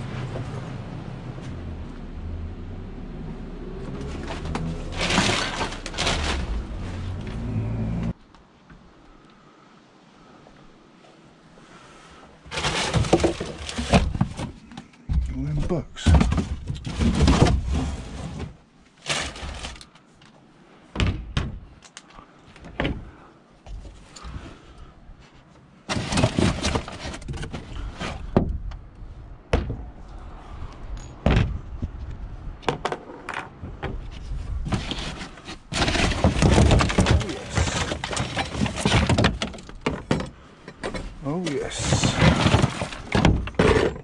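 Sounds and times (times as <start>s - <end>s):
rustling and scraping: 3.8s - 8.2s, 11.0s - 20.5s, 21.7s - 32.3s, 32.9s - 44.0s.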